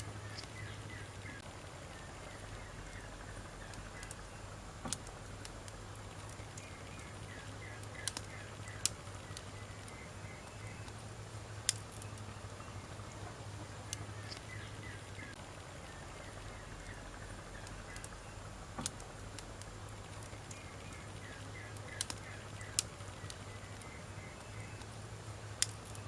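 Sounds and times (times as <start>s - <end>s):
burning wood popping: 0.0s - 26.0s
wood fire crackling: 0.0s - 26.0s.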